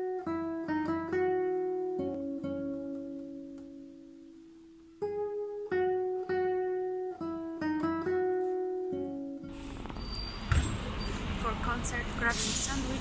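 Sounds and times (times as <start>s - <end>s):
acoustic guitar fingerpicking: 0.0s - 11.3s.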